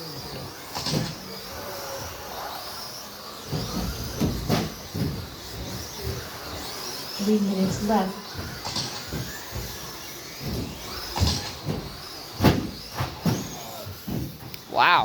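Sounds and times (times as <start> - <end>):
rc truck motor whine: 0.0 - 15.0.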